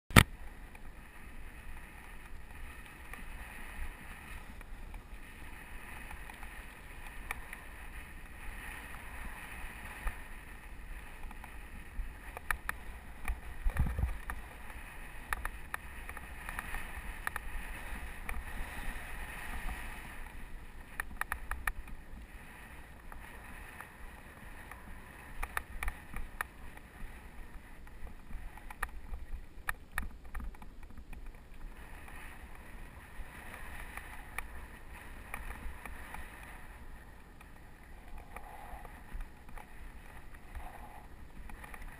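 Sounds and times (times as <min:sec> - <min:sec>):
wind buffeting microphone: 0:00.1 - 0:41.9.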